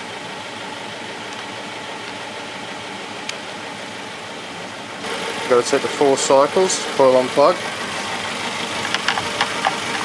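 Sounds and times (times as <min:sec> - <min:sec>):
engine idling with misfire: 0:00.0 - 0:10.0.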